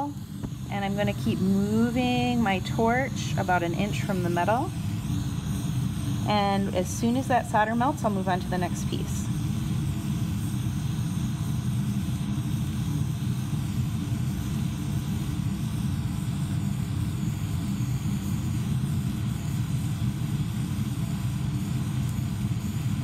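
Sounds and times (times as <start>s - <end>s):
torch flame burning: 0.0s - 23.0s.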